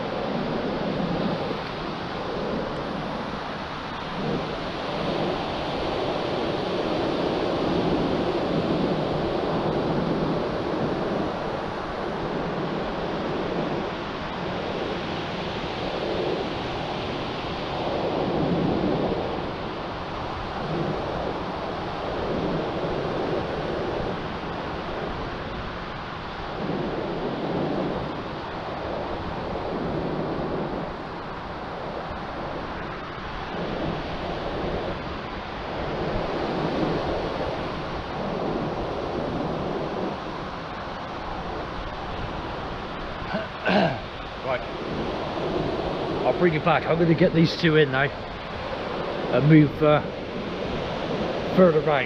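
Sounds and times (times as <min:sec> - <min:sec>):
surf: 0:00.0 - 0:52.0
wind buffeting microphone: 0:00.0 - 0:52.0.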